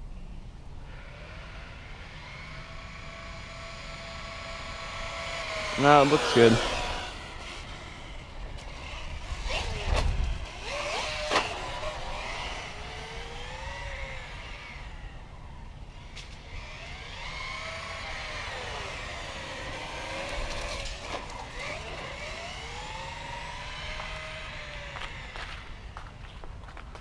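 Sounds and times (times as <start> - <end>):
rc truck motor whining: 0.8 - 26.5.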